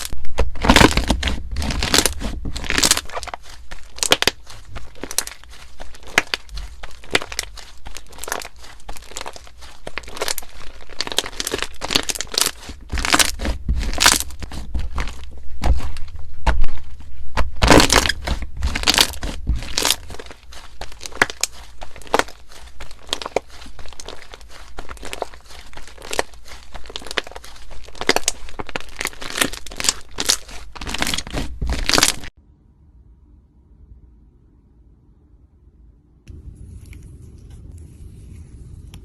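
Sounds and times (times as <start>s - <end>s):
slime crackling and popping: 0.0s - 32.4s.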